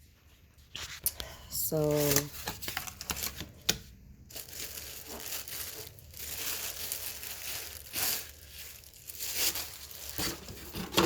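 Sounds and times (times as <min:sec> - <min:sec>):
packaging crinkling and rustling: 0:00.7 - 0:11.0.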